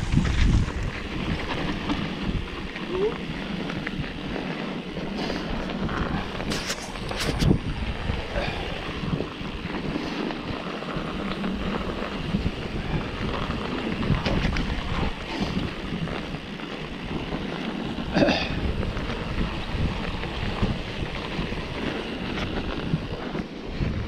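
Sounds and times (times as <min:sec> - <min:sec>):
bike knocking and rattling: 0:00.0 - 0:24.0
tyres rumbling on packed snow: 0:00.0 - 0:24.0
wind noise on microphone: 0:00.0 - 0:24.0.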